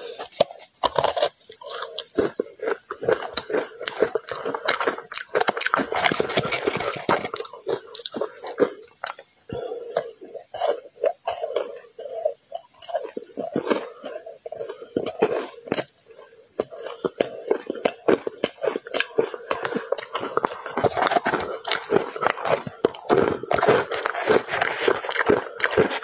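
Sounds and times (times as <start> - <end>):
chewing crunchy powdery ice: 0.0 - 26.0.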